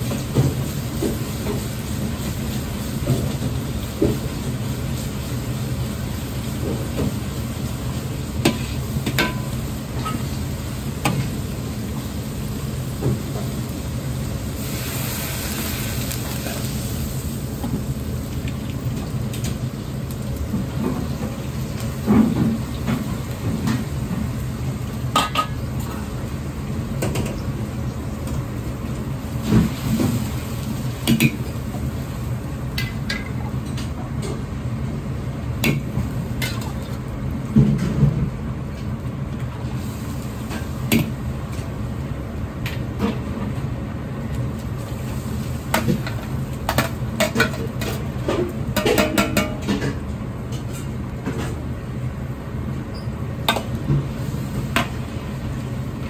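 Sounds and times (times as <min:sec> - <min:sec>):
gas burner roaring: 0:00.0 - 0:56.0.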